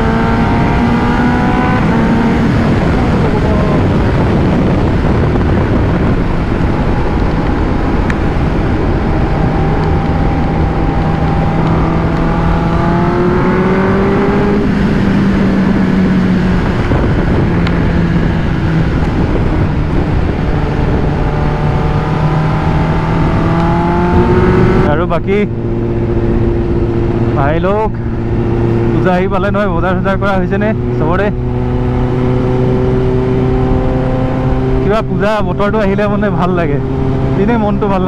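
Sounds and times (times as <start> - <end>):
motorcycle engine running: 0.0 - 38.0
wind rushing: 0.0 - 38.0.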